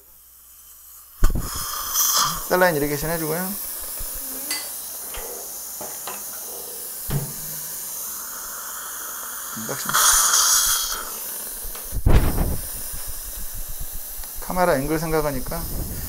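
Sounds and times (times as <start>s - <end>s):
suction tip hissing: 0.0s - 16.0s.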